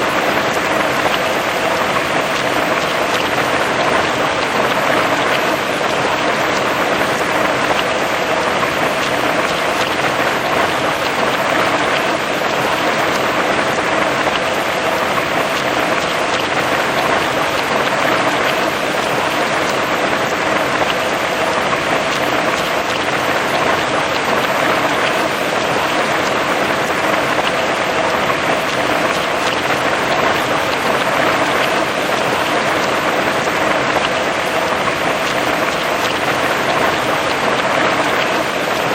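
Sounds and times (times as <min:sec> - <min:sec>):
heavy rain on grass and trees: 0:00.0 - 0:38.9.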